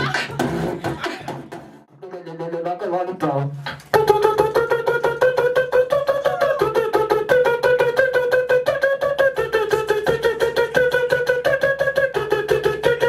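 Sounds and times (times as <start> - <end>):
person beatboxing: 0.0 - 13.0.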